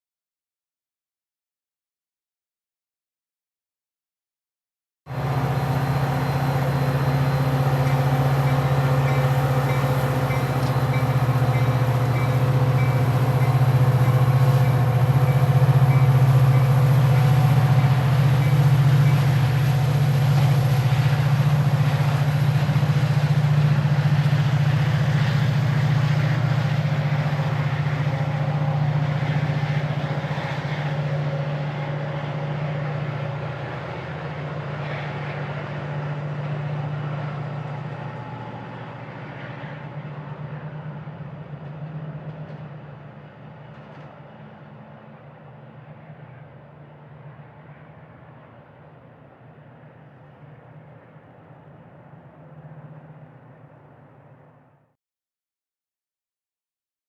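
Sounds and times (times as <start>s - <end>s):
rail and wheel rattle: 5.1s - 54.7s
train low drone: 5.1s - 55.0s.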